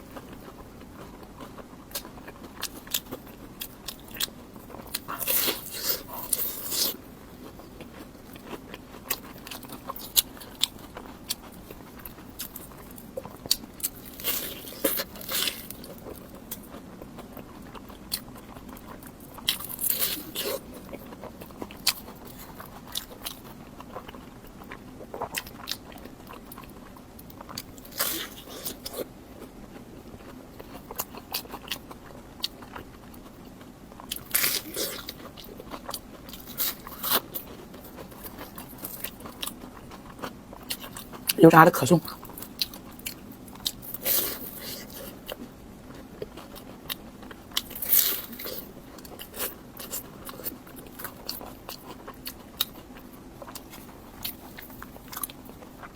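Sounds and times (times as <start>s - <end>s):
soft crunching chews: 0.0s - 55.9s.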